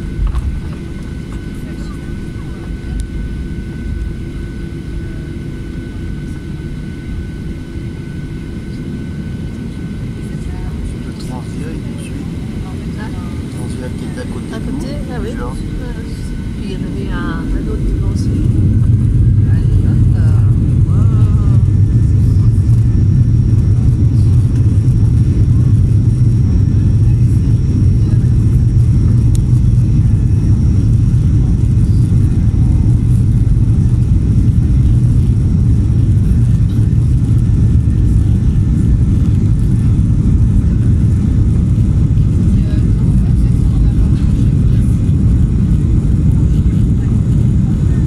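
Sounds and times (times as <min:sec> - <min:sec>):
jet engines rumbling: 0:00.0 - 0:48.0.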